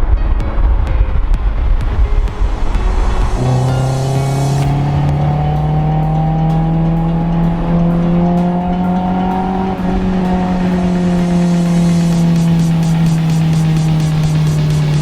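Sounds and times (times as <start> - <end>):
road rumble: 0.0 - 15.0
wind: 0.0 - 15.0
car engine accelerating: 1.2 - 15.0.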